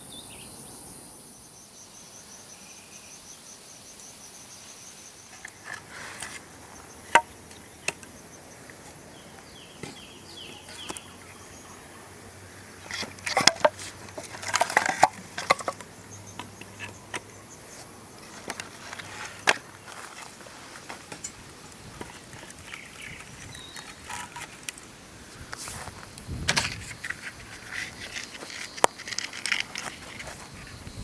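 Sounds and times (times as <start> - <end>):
high insect hiss: 0.0 - 31.0
handling clicks and rustles: 5.3 - 31.0.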